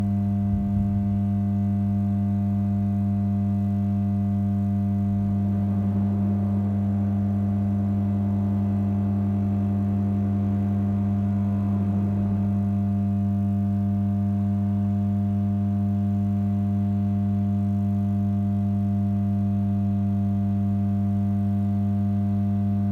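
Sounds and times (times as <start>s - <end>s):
low droning hum: 0.0s - 1.6s, 4.6s - 15.0s, 16.4s - 22.9s.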